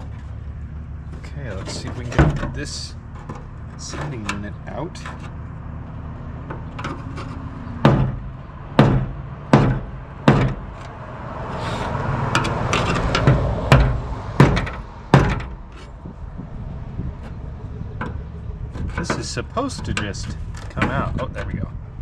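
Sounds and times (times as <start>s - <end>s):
rough metal scraping: 0.0s - 21.6s
sharp metal knocks: 1.2s - 5.4s, 6.4s - 11.0s, 11.6s - 16.2s, 17.0s - 21.5s.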